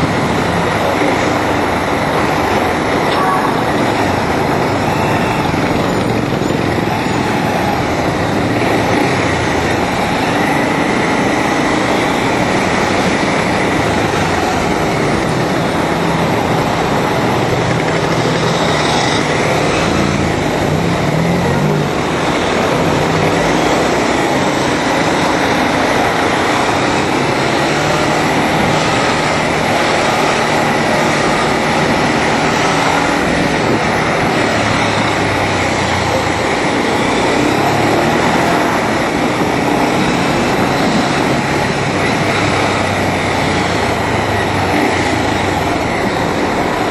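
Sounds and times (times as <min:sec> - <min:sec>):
motorcycle engine at speed: 0:00.0 - 0:46.9
wind and road noise: 0:00.0 - 0:46.9.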